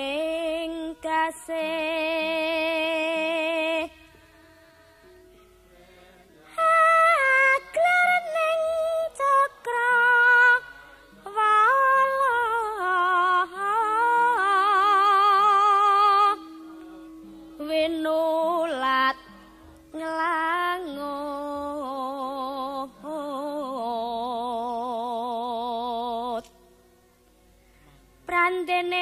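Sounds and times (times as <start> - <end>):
person singing slow melody: 0.0 - 26.7.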